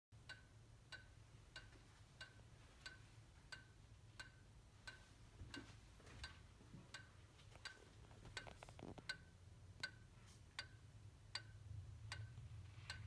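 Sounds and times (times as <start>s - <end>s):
faint low hum: 0.2s - 13.0s.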